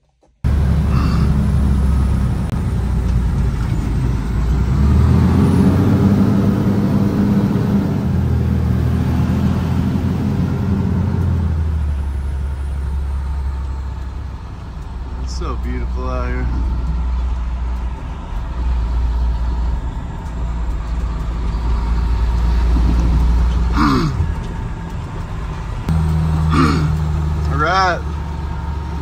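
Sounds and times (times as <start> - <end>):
truck engine from inside cab: 0.0 - 29.0.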